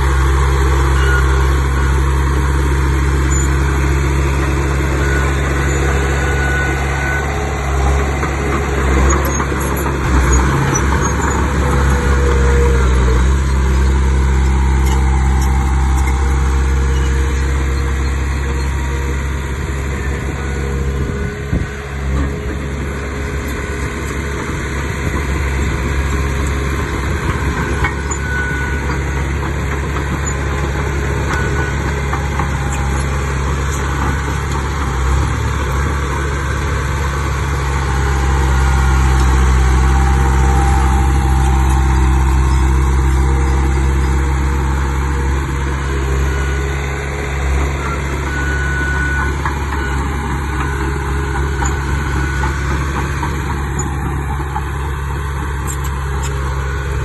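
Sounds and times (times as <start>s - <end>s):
diesel machinery engine running: 0.0s - 57.0s.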